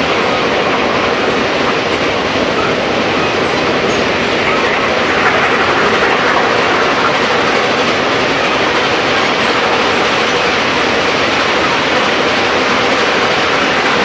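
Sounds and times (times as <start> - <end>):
train rushing and rumbling: 0.0 - 14.0.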